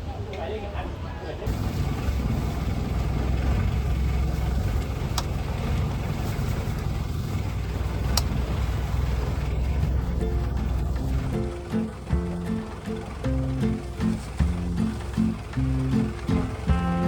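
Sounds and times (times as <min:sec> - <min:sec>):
boat engine rumbling: 0:01.4 - 0:17.0.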